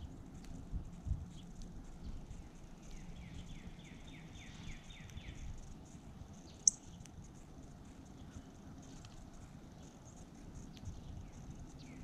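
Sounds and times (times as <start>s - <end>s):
low outdoor background noise: 0.0s - 12.0s.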